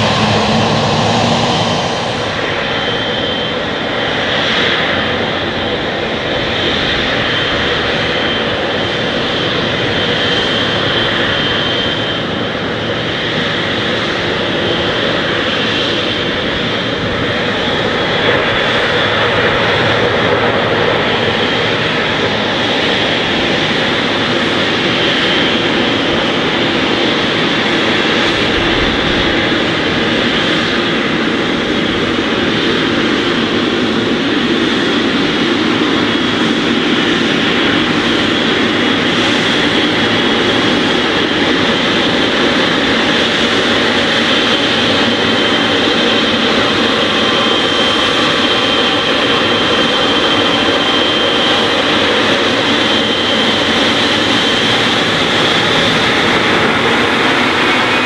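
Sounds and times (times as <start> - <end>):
high engine whine: 0.0 - 58.0
jet engines rushing: 0.0 - 58.0.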